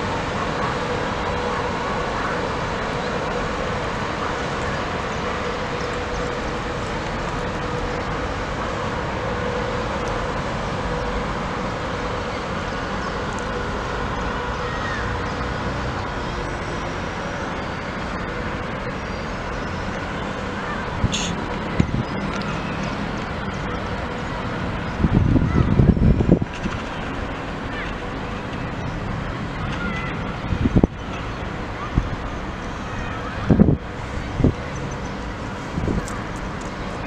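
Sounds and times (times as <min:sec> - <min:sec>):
distant locomotive rumble: 0:00.0 - 0:37.0
faint train hum: 0:00.0 - 0:37.0
road traffic: 0:00.0 - 0:37.0.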